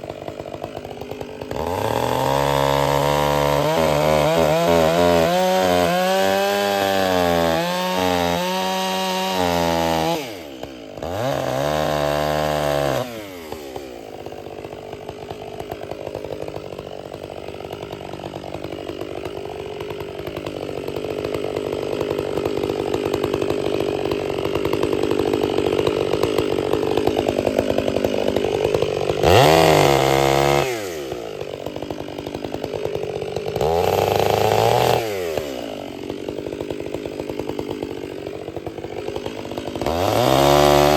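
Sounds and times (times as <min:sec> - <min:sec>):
chainsaw cutting through wood: 0:00.0 - 0:40.9
chainsaw revving: 0:00.0 - 0:40.9.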